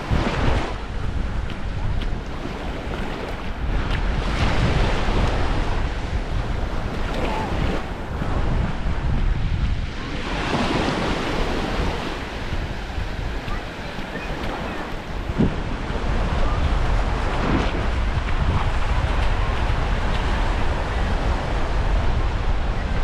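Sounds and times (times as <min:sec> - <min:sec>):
small waves washing onto sand: 0:00.0 - 0:23.0
wind buffeting microphone: 0:00.0 - 0:23.0.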